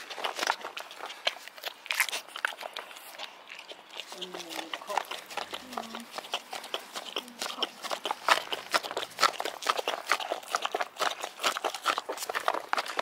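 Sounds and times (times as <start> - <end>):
dog licking and smacking: 0.0 - 13.0.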